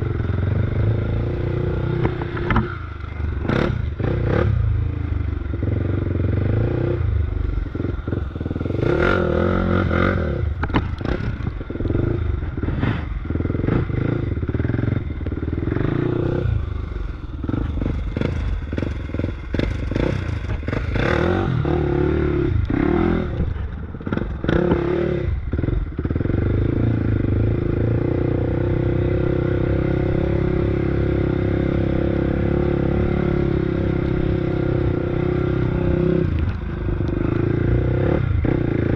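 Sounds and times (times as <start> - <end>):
off-road bike engine revving: 0.0 - 38.9.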